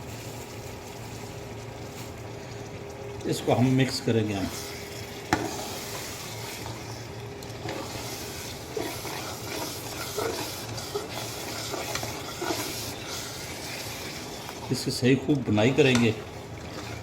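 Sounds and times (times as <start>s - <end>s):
chicken sizzling in a pan: 0.0s - 16.2s.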